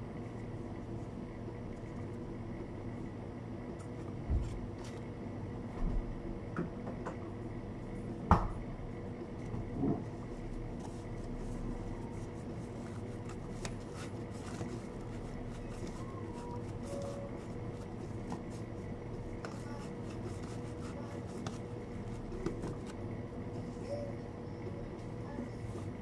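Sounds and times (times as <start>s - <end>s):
kitchen equipment hum: 0.0s - 26.0s.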